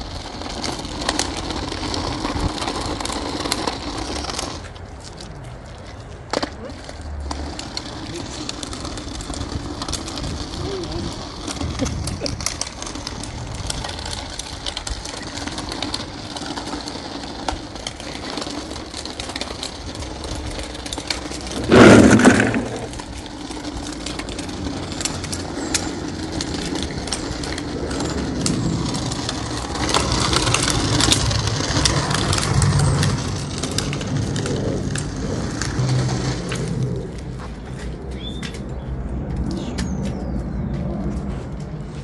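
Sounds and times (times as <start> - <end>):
vacuum floor head scraping tarmac: 0.0 - 42.0.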